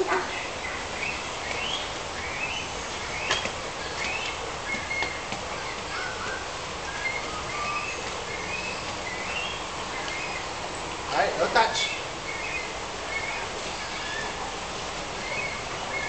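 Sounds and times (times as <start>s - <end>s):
background hiss: 0.0s - 16.0s
birds chirping rising calls: 0.0s - 16.0s.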